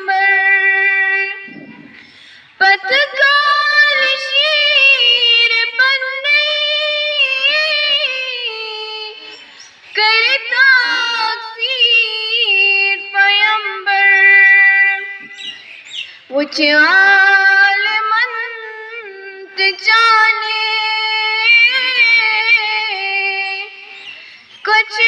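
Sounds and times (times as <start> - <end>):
girl singing: 0.0 - 2.0, 2.6 - 15.5, 16.3 - 25.0.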